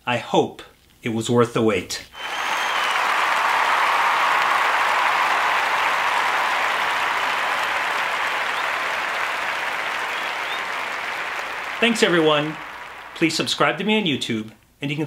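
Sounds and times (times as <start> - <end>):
crowd applauding: 2.2 - 14.3.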